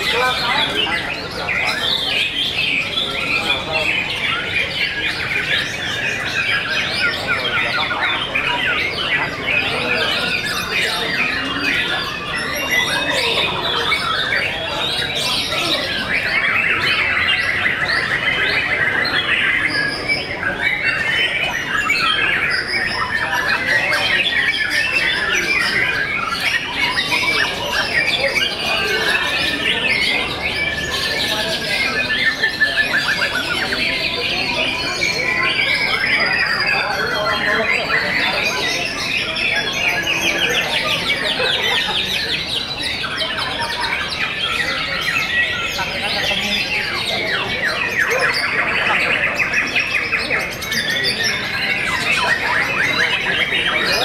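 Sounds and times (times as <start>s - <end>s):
birds singing and chirping: 0.0s - 54.0s
birds squawking harshly: 0.0s - 54.0s.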